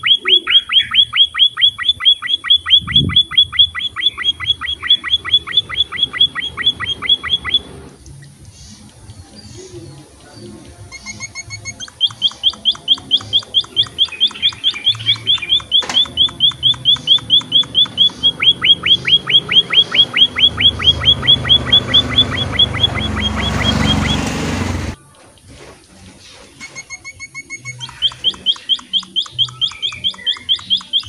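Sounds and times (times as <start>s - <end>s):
finch chirping: 0.0s - 7.9s, 8.6s - 25.0s, 26.9s - 31.0s
rushing background noise: 0.0s - 31.0s.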